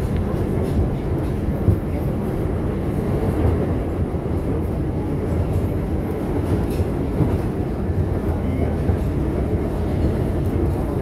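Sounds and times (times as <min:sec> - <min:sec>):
subway train rumbling on rails: 0:00.0 - 0:11.0.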